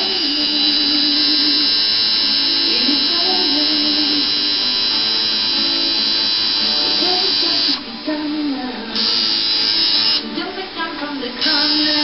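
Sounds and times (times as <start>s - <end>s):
tattoo machine buzzing: 0.0s - 7.9s, 8.9s - 10.3s, 11.4s - 12.0s
background music: 0.0s - 12.0s.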